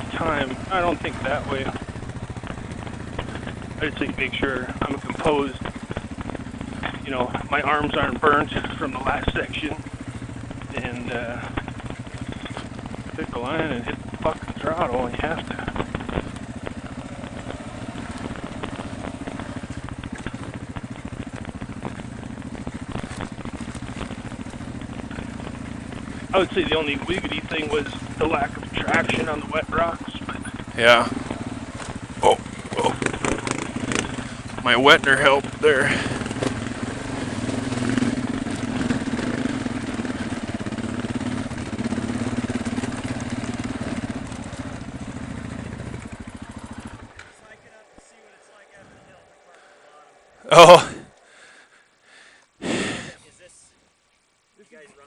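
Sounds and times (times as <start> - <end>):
motorcycle engine idling: 0.0 - 53.4.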